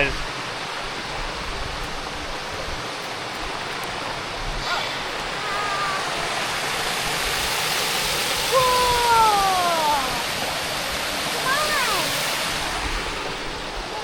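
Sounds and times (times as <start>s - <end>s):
waterfall and creek rushing: 0.0s - 14.0s.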